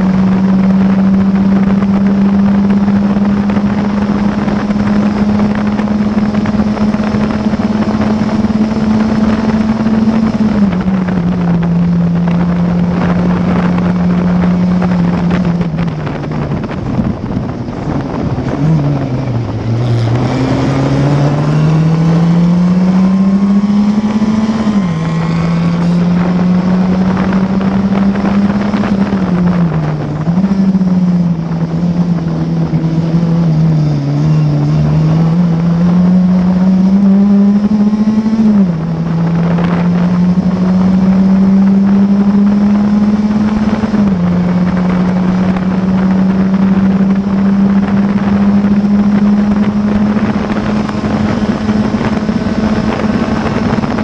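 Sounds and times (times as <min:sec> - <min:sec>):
racing car engine revving: 0:00.0 - 0:54.0
wind rushing over microphone: 0:00.0 - 0:54.0.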